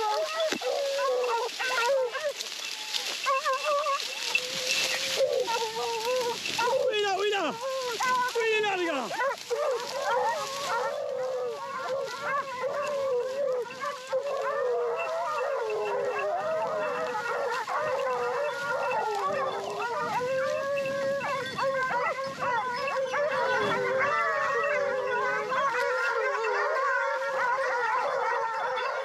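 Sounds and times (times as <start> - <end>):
hounds baying and howling: 0.0 - 29.0.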